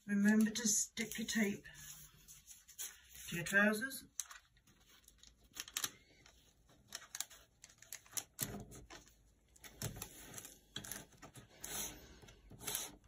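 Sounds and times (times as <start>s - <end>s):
paper rustling: 0.2s - 13.0s.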